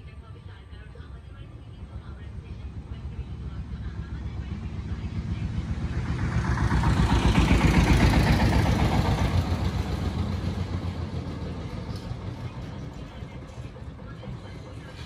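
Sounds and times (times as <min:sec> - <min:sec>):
small van engine running: 0:00.0 - 0:15.0.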